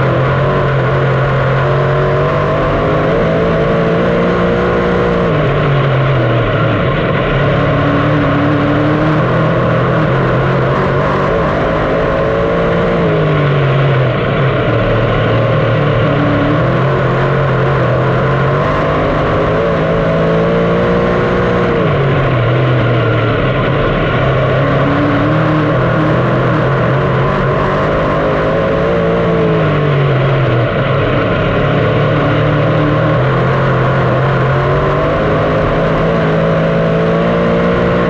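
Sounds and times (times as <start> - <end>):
race car engine roaring: 0.0 - 38.0.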